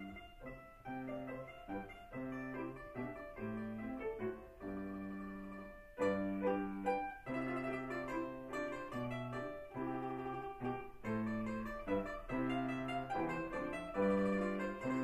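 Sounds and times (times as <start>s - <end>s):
piano low chords: 0.0s - 15.0s.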